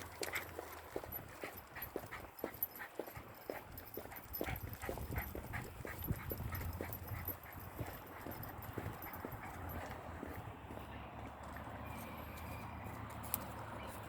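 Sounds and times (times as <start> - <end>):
footsteps on pavement: 0.0 - 14.0.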